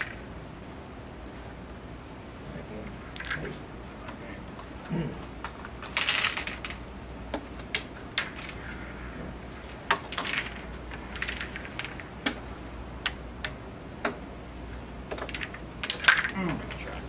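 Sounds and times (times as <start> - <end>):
wooden discs clicking together: 0.0 - 17.0.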